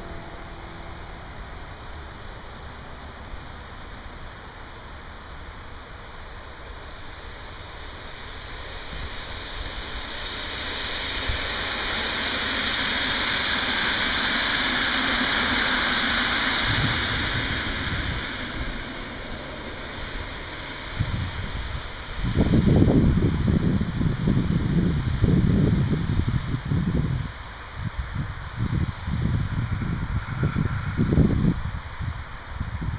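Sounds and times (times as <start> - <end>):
train wheels rushing on rails: 0.0 - 32.9.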